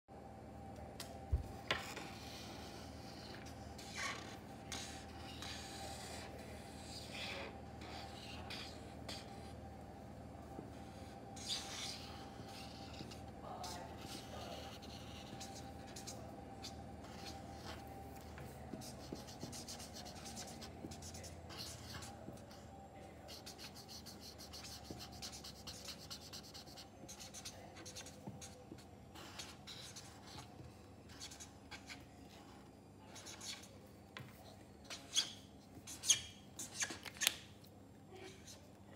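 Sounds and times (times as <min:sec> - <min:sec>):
marker scratching on paper: 0:01.7 - 0:09.6, 0:10.7 - 0:22.6, 0:23.2 - 0:37.5.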